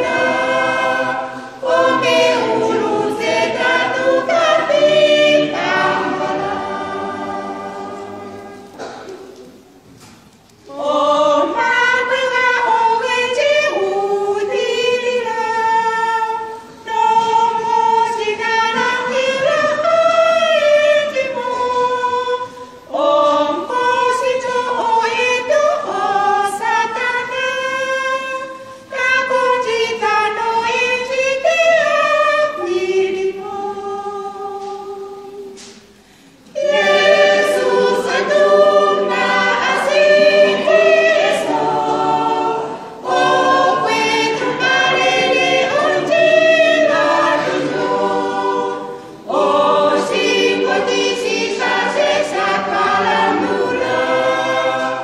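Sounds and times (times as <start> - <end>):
women's choir singing a cappella: 0.0 - 55.0.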